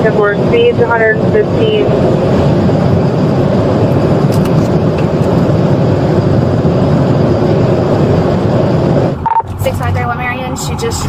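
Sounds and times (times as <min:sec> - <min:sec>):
road and engine noise in car: 0:00.0 - 0:11.0.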